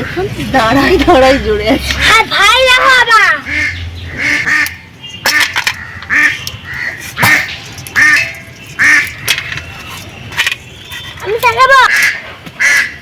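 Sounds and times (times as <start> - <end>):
ducks quacking: 0.0 - 9.3, 11.6 - 13.0.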